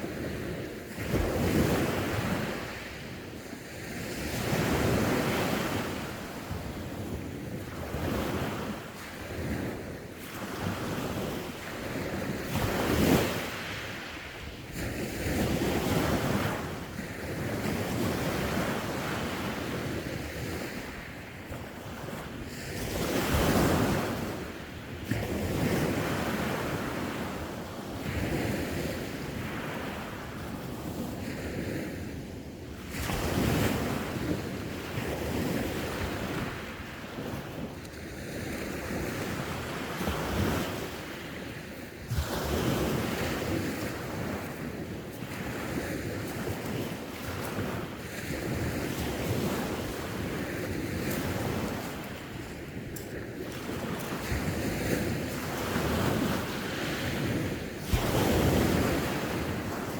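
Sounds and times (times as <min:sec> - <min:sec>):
sea waves washing ashore: 0:00.0 - 0:59.9
wind buffeting microphone: 0:00.0 - 0:59.9.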